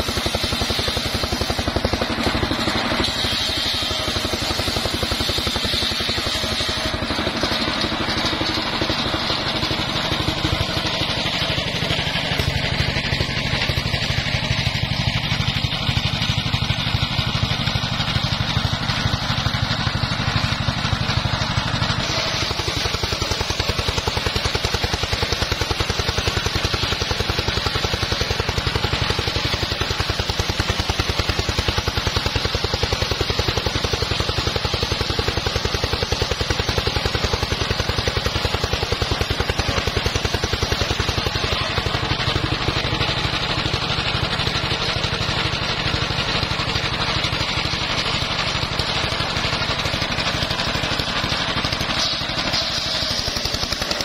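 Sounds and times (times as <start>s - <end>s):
circular saw cutting log: 0.0s - 54.0s.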